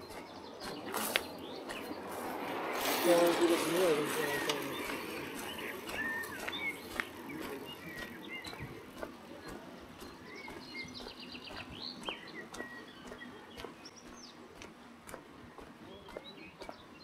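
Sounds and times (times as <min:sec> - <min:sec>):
small birds singing and chirping: 0:00.0 - 0:17.0.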